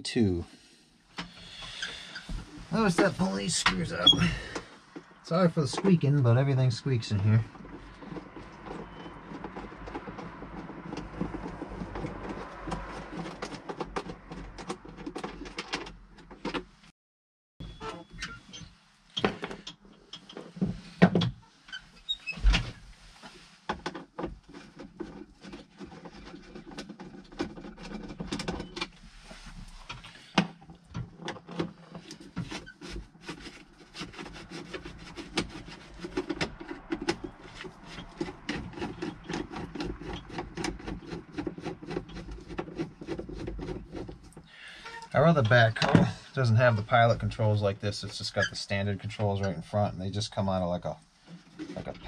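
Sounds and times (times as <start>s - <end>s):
squeaking fittings: 1.1s - 15.9s, 17.6s - 23.4s, 24.2s - 47.3s.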